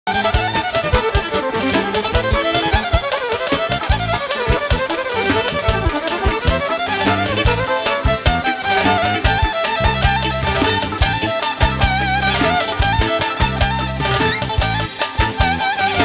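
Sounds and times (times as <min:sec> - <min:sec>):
fast violin melody: 0:00.0 - 0:16.0
band playing steady beat: 0:00.1 - 0:16.0.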